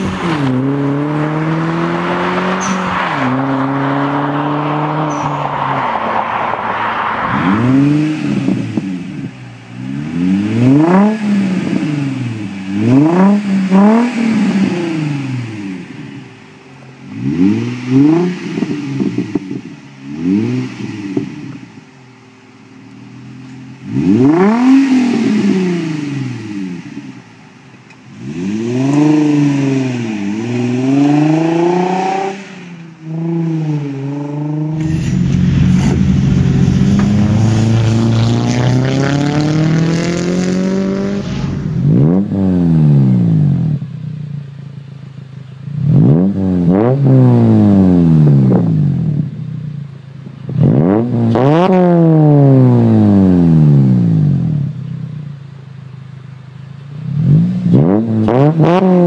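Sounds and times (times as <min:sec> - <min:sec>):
car engine revving: 0:00.0 - 0:55.3, 0:55.9 - 0:59.0
car engine running with rising pitch: 0:00.0 - 0:59.0.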